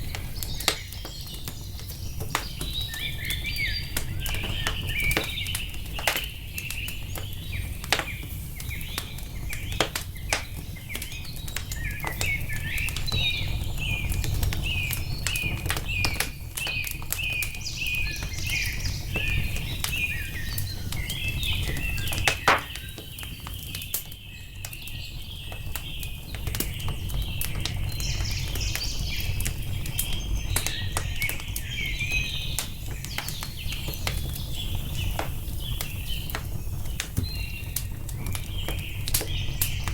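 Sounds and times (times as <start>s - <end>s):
birds chirping: 0.0s - 39.9s
wood fire crackling and popping: 0.0s - 39.9s.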